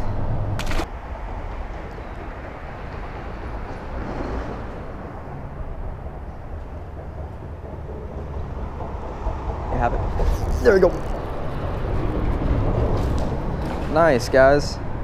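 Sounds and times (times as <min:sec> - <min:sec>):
traffic rumble on bridge: 0:00.0 - 0:15.0.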